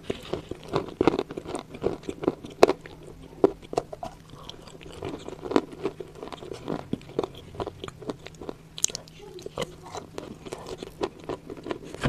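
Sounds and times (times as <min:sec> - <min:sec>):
chewing crunchy clay: 0:00.0 - 0:12.0.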